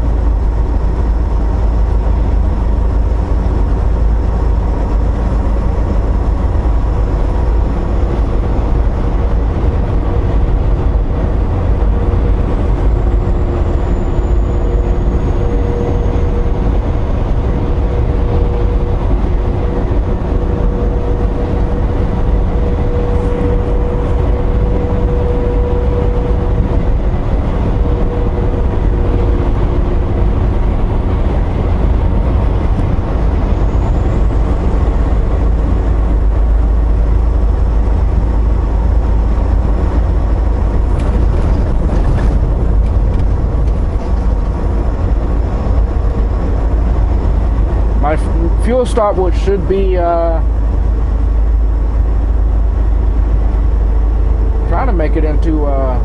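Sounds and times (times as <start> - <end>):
diesel engine and tyres rumbling: 0.0 - 56.0.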